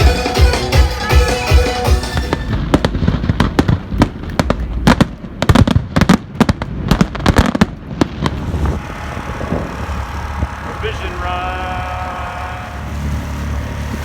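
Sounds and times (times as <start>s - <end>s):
fireworks bangs and cracks: 0.0s - 11.4s
low rumble: 1.9s - 14.0s.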